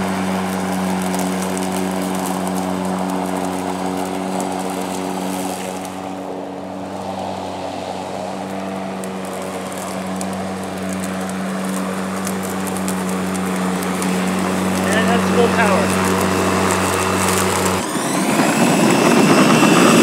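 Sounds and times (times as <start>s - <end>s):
electric lawn mower humming: 0.0s - 20.0s.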